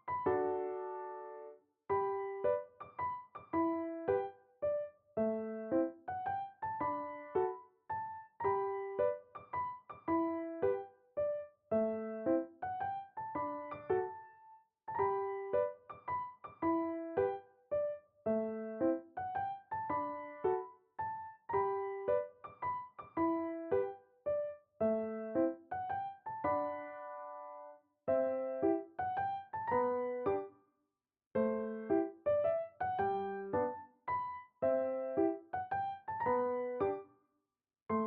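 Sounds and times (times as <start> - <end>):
gentle solo piano melody: 0.0 - 30.6, 31.4 - 37.1.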